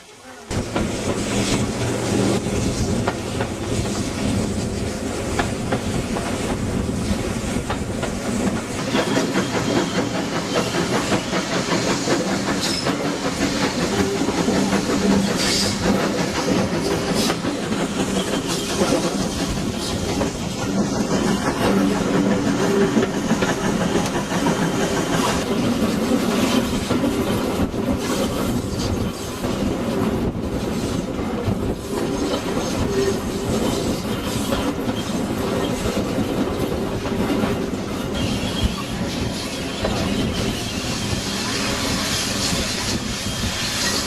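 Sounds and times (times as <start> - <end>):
train wheels clicking over rails: 0.5 - 44.0.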